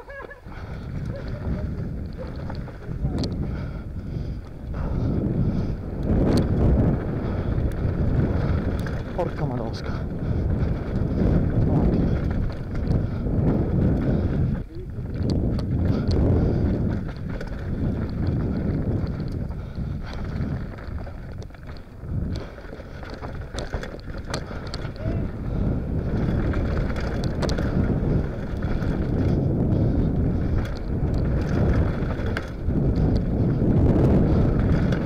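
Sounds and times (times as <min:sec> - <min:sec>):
bike clicks and rattles: 0:00.0 - 0:35.0
tyre noise on dirt: 0:00.0 - 0:35.0
wind rumbling on microphone: 0:00.0 - 0:35.0.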